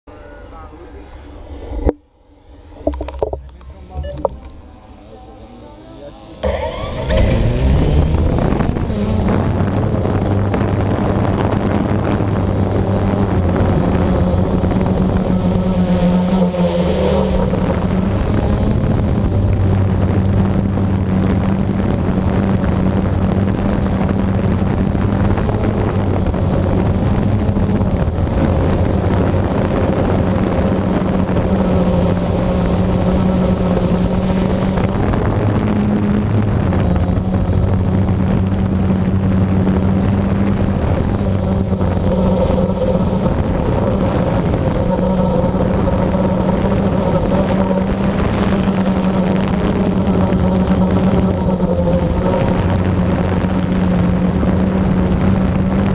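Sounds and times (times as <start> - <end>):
quadcopter motors humming: 0.1 - 55.9.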